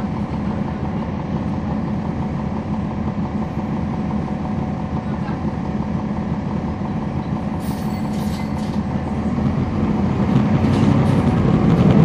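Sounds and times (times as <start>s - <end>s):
bus diesel engine running: 0.0s - 12.0s
bus interior rattles: 0.0s - 12.0s.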